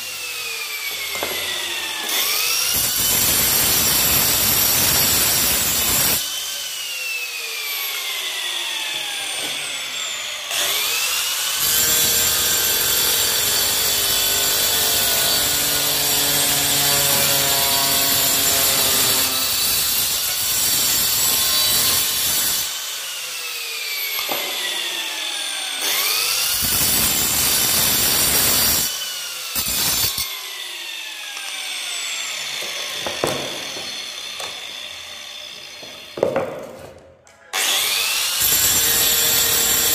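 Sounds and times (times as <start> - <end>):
grinder disc cutting tile: 0.0 - 39.9.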